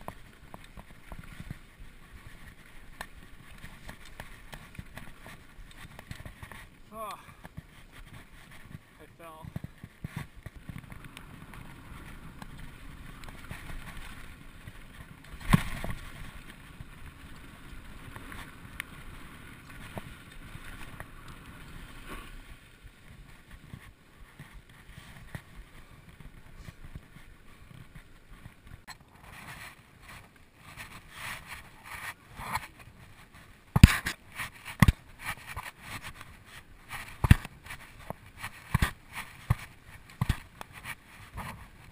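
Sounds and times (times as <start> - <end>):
mountain bike trail noise: 0.0 - 41.9.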